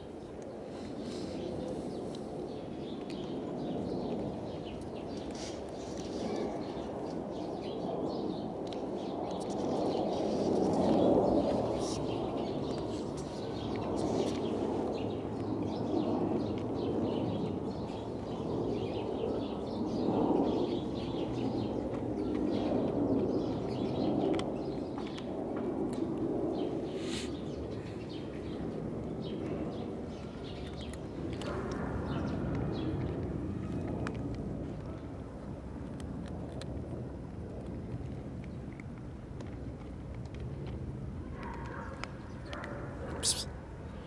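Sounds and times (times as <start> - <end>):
cats crunching dry kibble: 0.0 - 44.0.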